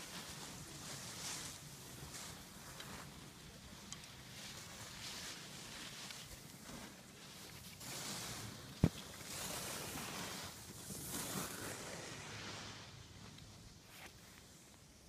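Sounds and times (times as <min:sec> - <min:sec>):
skis scraping over packed snow: 0:00.0 - 0:15.0.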